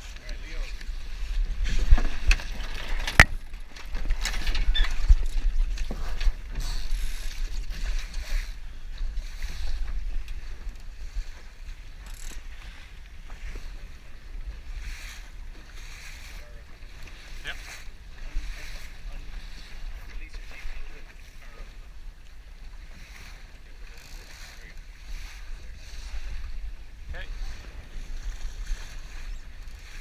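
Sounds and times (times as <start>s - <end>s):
water rushing along a hull: 0.0s - 30.0s
wind rumbling on microphone: 0.0s - 30.0s.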